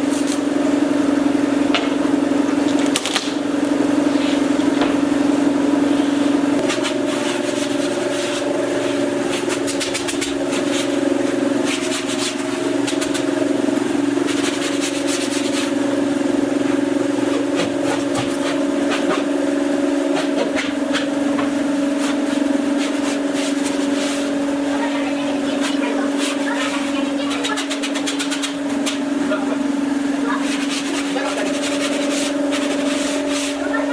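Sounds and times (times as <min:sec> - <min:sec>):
crackly wood cutting noise: 0:00.0 - 0:00.8, 0:01.6 - 0:33.9.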